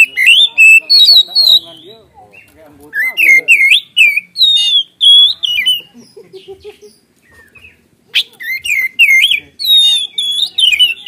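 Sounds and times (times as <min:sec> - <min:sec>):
bird singing whistled phrases: 0:00.0 - 0:05.9, 0:07.3 - 0:11.0.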